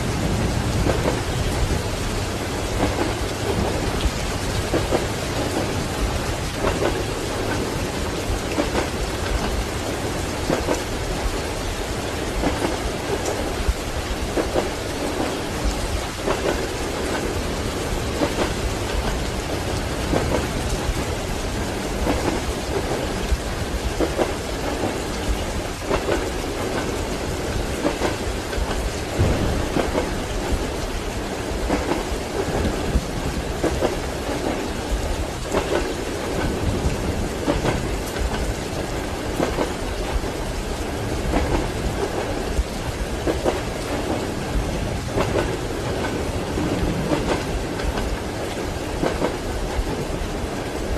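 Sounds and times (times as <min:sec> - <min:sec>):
steady rain: 0:00.0 - 0:50.9
thunder rumbling: 0:00.0 - 0:50.9
train wheels clacking over rail joints: 0:00.0 - 0:50.9.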